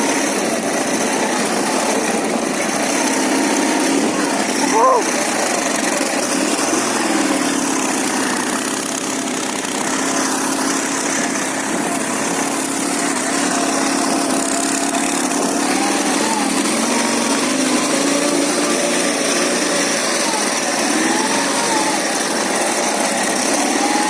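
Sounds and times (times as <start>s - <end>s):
motorcycle engine running: 0.0s - 24.0s
steady rushing hiss: 0.0s - 24.0s.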